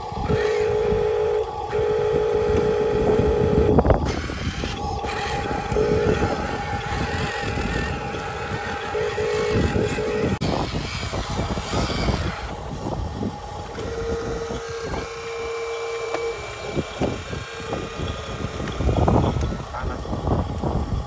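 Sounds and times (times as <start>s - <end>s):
toy truck electric motor whining: 0.0s - 21.0s.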